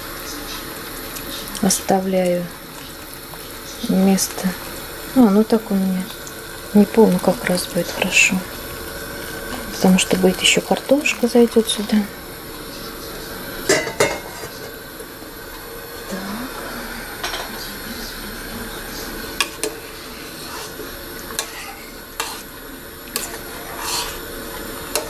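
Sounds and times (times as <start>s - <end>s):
gas stove hiss: 0.0s - 25.0s.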